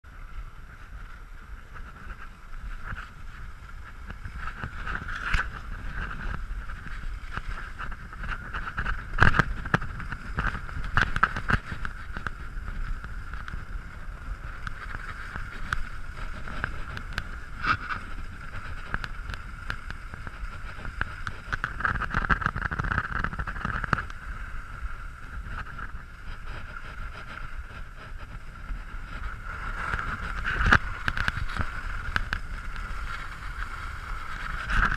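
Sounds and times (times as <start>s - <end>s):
skis scraping over snow: 0.1s - 34.9s
wind on microphone: 0.1s - 34.9s.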